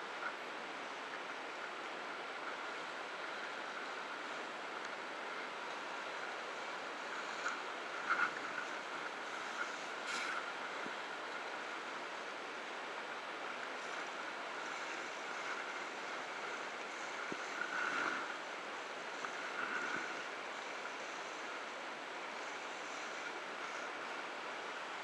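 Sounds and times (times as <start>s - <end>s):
sea water splashing along hull: 0.0s - 25.0s
wind: 0.0s - 25.0s.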